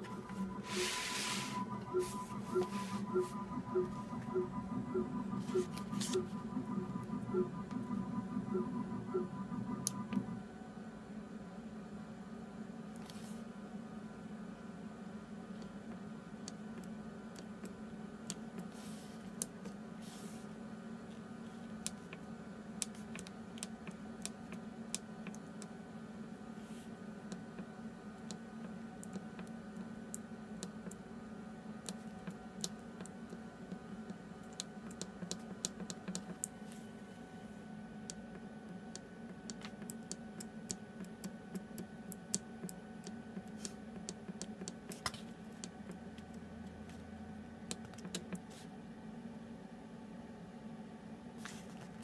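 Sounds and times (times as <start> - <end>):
low hum of fixture: 0.0 - 52.0.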